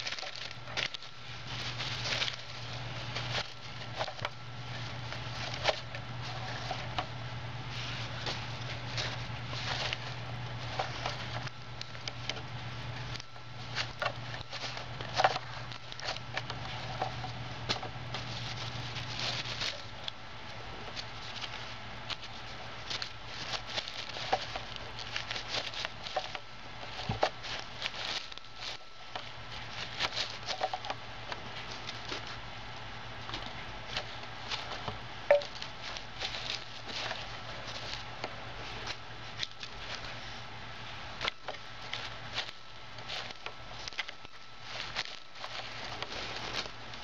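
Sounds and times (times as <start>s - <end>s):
paper and plastic crinkling: 0.0s - 47.0s.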